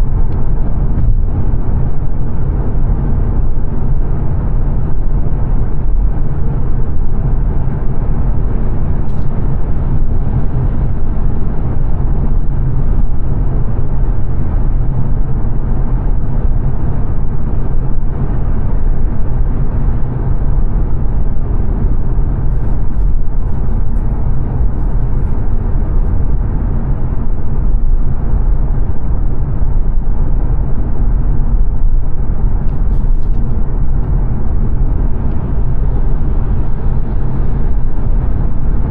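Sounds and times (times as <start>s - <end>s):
road and tyre noise in car: 0.0s - 38.9s.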